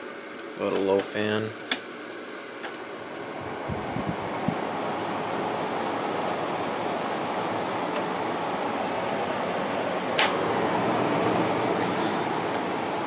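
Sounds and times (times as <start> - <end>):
air conditioner fan blowing: 0.0 - 13.0.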